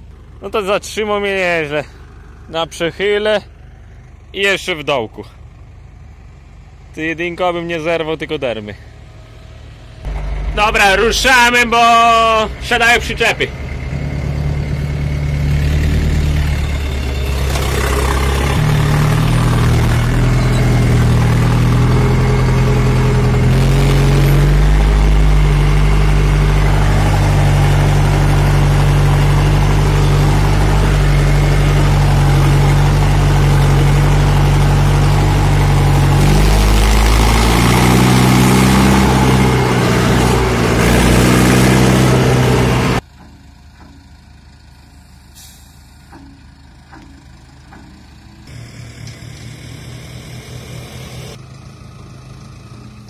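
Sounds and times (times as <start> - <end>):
tractor engine running under load: 0.0 - 8.1, 8.9 - 53.0.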